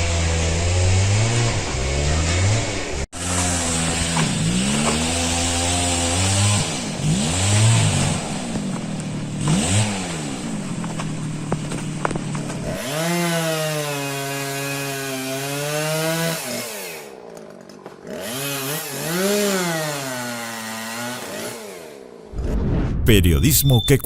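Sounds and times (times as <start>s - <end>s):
chainsaw engine revving: 0.0s - 17.1s, 18.0s - 22.0s.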